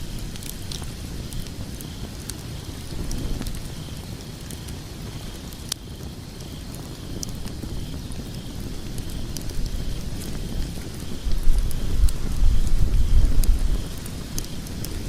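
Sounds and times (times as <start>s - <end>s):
burning logs crackling and popping: 0.0s - 15.0s
low rumble of flames: 0.0s - 15.0s.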